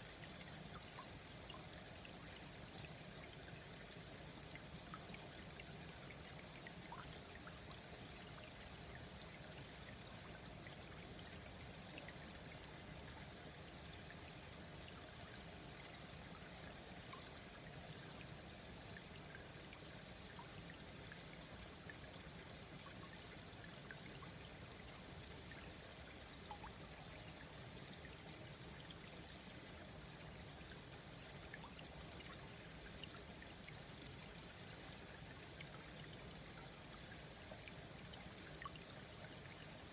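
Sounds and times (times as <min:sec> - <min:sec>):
water trickles and drips: 0:00.1 - 0:39.9.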